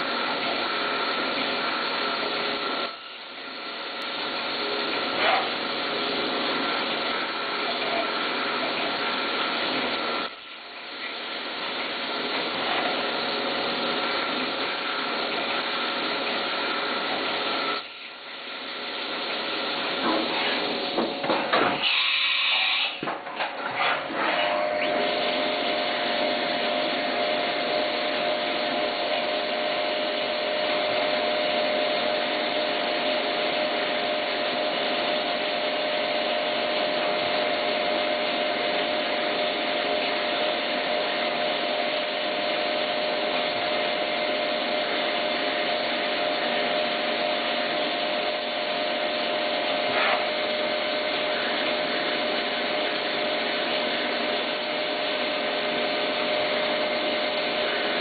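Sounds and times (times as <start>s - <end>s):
milling machine cutting metal: 0.0s - 23.0s, 23.7s - 58.0s.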